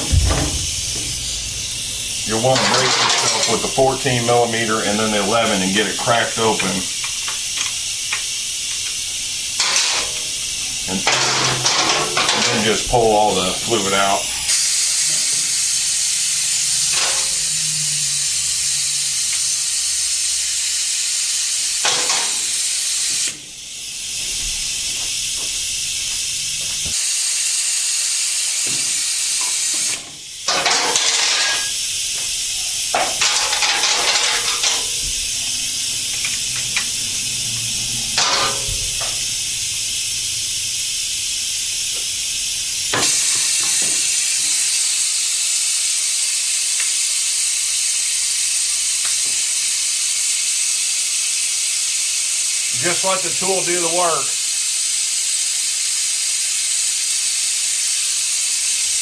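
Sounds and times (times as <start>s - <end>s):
air hissing through tool: 0.0s - 59.0s.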